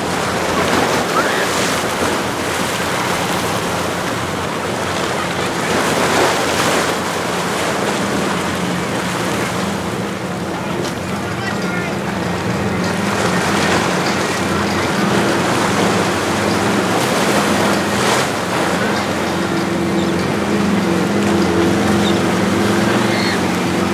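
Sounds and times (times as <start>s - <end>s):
outboard motor humming: 0.0s - 23.9s.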